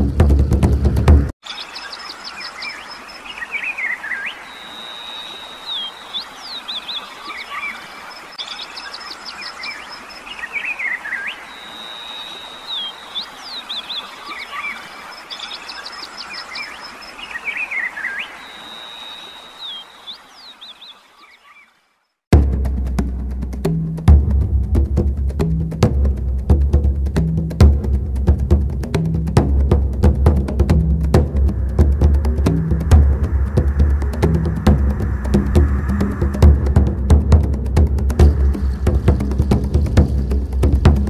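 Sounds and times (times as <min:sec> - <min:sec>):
forest birds calling: 0:00.0 - 0:22.2, 0:28.4 - 0:41.0
faint hiss: 0:00.0 - 0:41.0.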